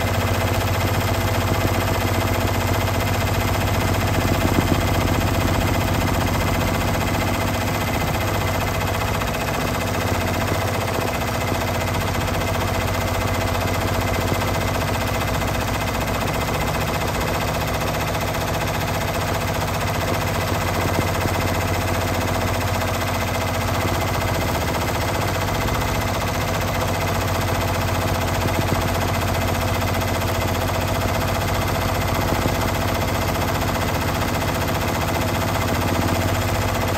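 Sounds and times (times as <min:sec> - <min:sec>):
embroidery machine needle rattle: 0:00.0 - 0:36.9
motor hum: 0:00.0 - 0:36.9.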